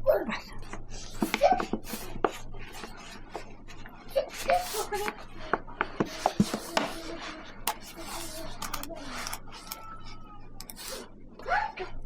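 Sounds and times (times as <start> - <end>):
utensils scraping and rubbing: 0.9 - 11.1.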